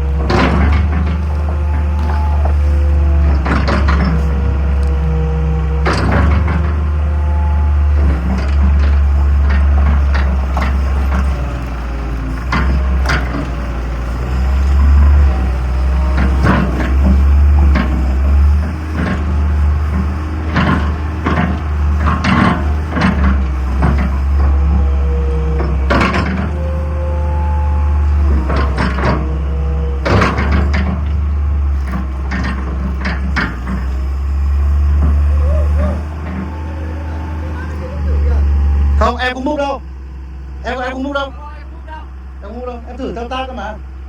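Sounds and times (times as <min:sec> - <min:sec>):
excavator clanks and knocks: 0:00.0 - 0:39.4
excavator diesel engine running: 0:00.0 - 0:44.0.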